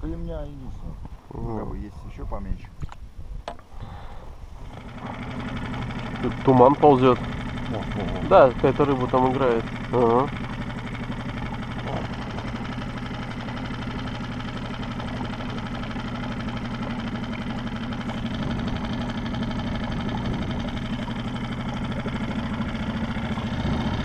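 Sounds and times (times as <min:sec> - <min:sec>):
outboard motor running: 0:03.6 - 0:24.0.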